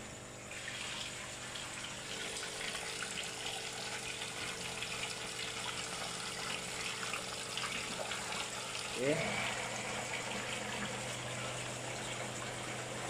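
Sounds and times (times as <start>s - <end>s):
water pouring and splashing: 0.5s - 13.0s.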